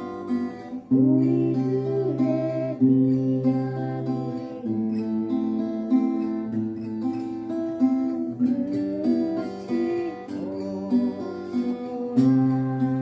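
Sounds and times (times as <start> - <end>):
acoustic guitar waltz accompaniment: 0.0 - 13.0.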